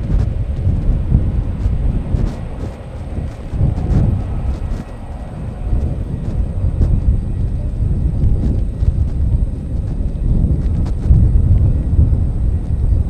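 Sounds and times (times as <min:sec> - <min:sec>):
distant jet airliner rumble: 0:00.0 - 0:13.0
wind buffeting microphone: 0:00.0 - 0:13.0.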